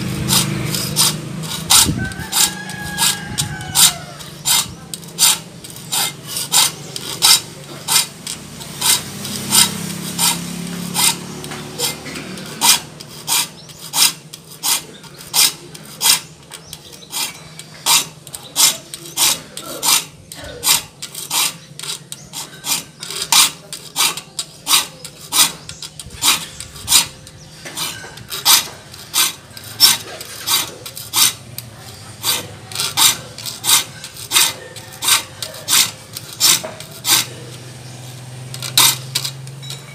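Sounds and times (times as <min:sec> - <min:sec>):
hand file rasping on saw teeth: 0:00.0 - 0:39.9.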